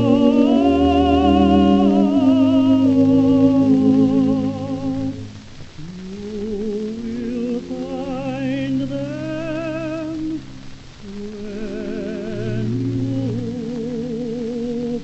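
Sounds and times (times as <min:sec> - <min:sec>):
slow melody with vibrato: 0:00.0 - 0:10.6, 0:11.4 - 0:15.0.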